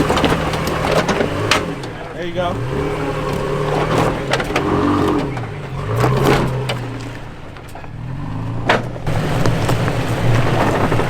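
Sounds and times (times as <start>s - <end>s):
off-road vehicle engine revving: 0.0s - 11.0s
tyres crunching over rock: 0.0s - 11.0s.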